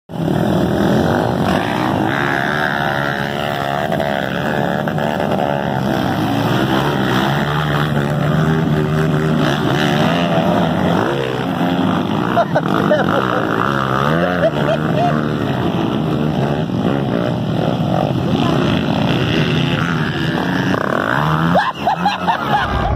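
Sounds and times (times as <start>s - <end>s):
dirt bike engines revving: 0.1s - 22.9s.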